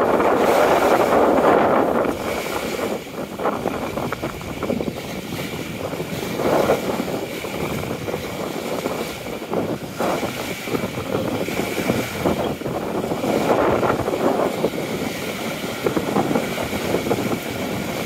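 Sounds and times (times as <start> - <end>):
waves splashing on shore: 0.0 - 18.0
wind gusting on microphone: 0.0 - 18.0.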